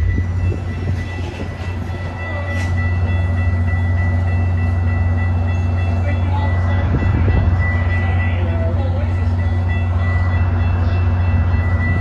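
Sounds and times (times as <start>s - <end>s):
train low drone: 0.0s - 12.0s.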